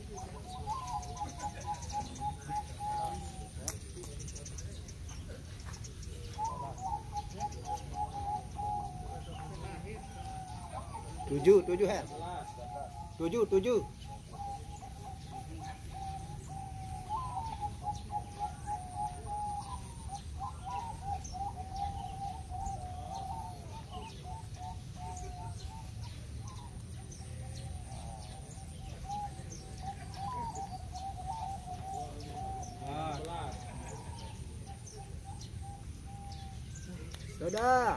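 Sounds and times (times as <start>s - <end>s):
doves cooing: 0.0s - 37.9s.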